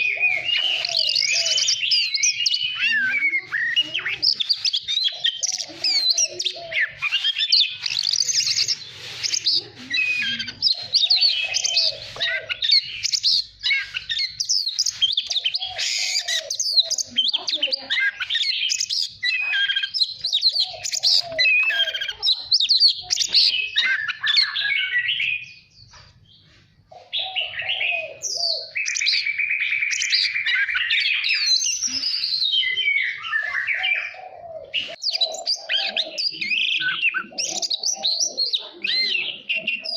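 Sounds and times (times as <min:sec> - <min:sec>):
bird singing whistles and chirps: 0:00.0 - 0:26.4, 0:27.0 - 0:39.9.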